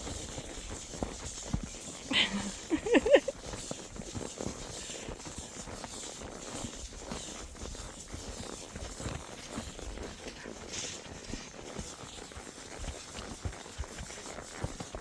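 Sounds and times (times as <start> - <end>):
horse hooves thudding: 0.0 - 15.0.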